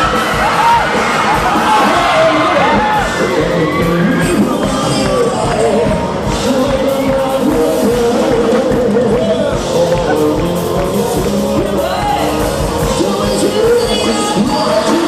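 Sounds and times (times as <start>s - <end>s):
rock song with singer: 0.0s - 15.0s.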